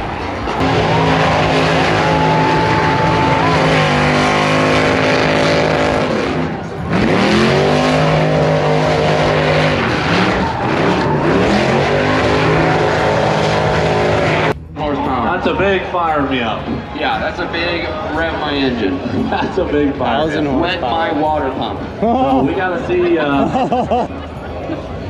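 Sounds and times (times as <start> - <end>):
tires spinning: 0.0 - 25.0
truck engine revving: 0.0 - 25.0.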